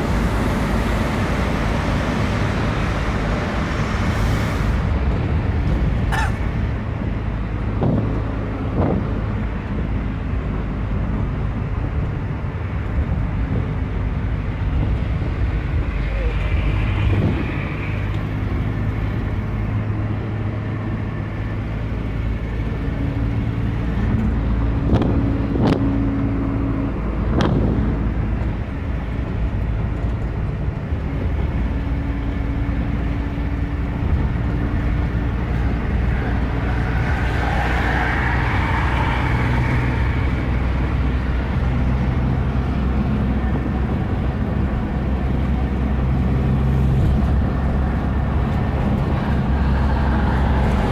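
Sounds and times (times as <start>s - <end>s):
car engine drone: 0.0s - 50.9s
tyre and road rumble: 0.0s - 50.9s.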